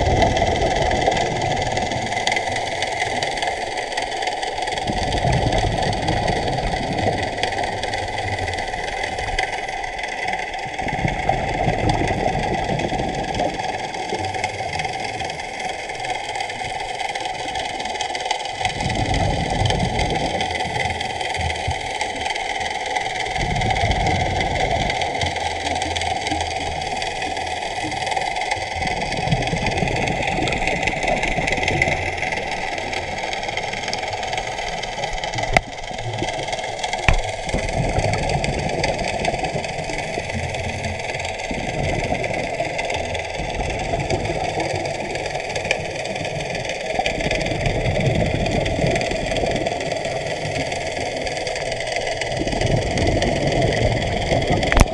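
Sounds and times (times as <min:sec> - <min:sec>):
muffled mechanical drone: 0:00.0 - 0:54.9
scuba exhaust bubbles: 0:00.0 - 0:54.9.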